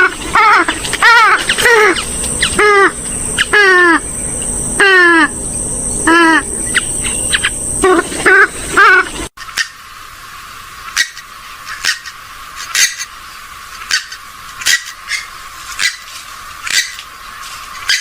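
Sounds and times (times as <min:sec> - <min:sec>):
waterbird calling harshly: 0:00.0 - 0:05.4, 0:06.0 - 0:09.9, 0:10.8 - 0:13.2, 0:13.8 - 0:17.1, 0:17.8 - 0:18.0.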